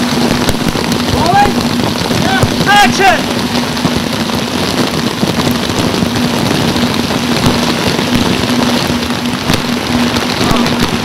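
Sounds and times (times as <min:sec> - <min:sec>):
heavy artificial rain falling: 0:00.0 - 0:11.0.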